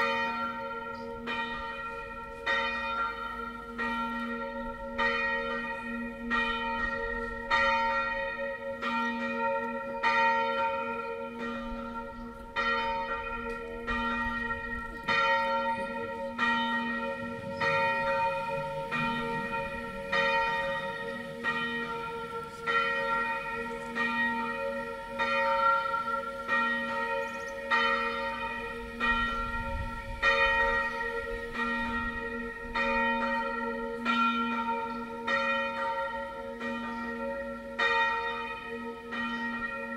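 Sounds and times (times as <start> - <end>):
church bell swinging and ringing: 0.0 - 39.9.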